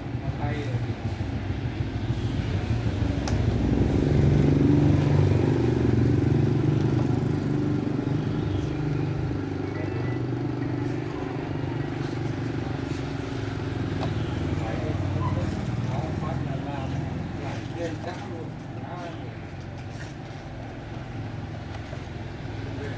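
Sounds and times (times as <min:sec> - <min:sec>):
low engine hum: 0:00.8 - 0:22.9.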